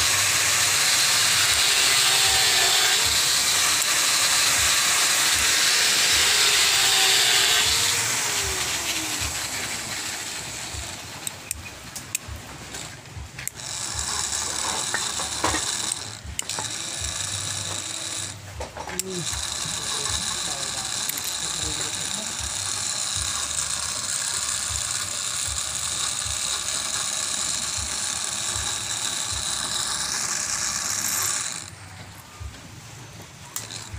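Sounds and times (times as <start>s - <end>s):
small electric motor whirring: 0.0s - 33.9s.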